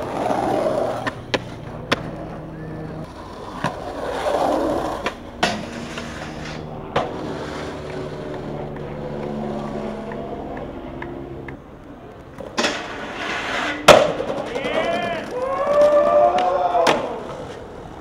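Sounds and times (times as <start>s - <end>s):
skateboard clacks: 0.0s - 18.0s
skateboard wheels rolling on pavement: 0.0s - 18.0s.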